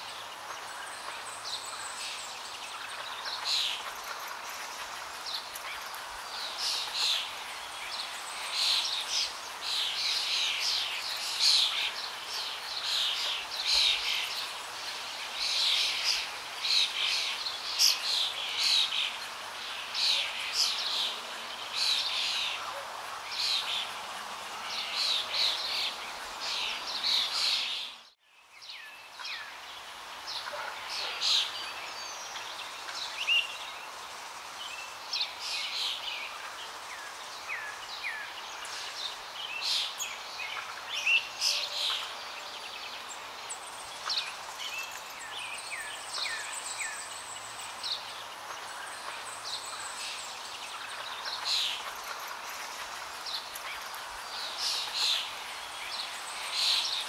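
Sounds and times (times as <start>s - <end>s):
small birds chirping: 0.0s - 57.0s
steady background hiss: 0.0s - 57.0s.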